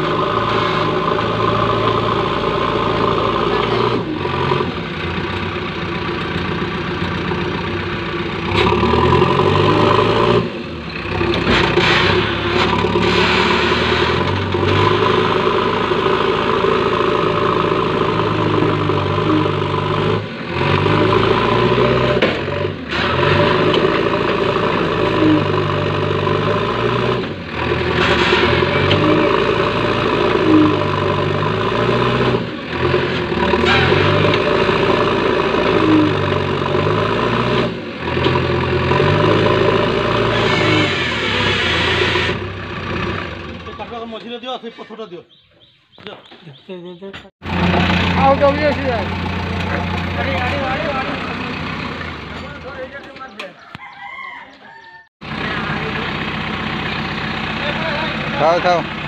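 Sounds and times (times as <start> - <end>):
diesel engine working under load: 0.0 - 45.7, 47.3 - 53.6, 55.2 - 59.0.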